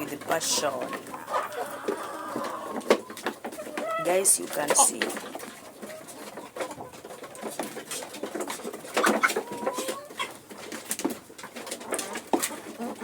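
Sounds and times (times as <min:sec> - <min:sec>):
hens clucking softly: 0:00.0 - 0:13.0.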